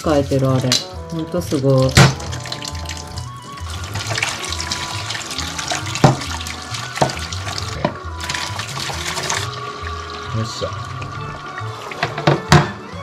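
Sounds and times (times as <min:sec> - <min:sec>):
tap water splashing on metal: 0:00.5 - 0:13.0.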